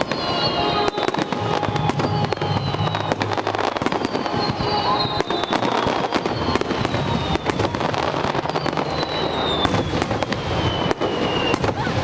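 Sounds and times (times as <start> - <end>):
descending firework whistle: 0.0 - 12.0
fireworks bangs and crackles: 0.0 - 12.0.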